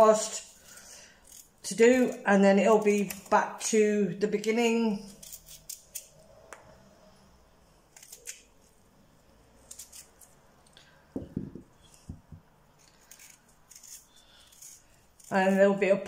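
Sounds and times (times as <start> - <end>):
knife scraping potato skin: 0.0 - 6.4, 7.9 - 8.8, 9.5 - 11.0, 11.7 - 16.0.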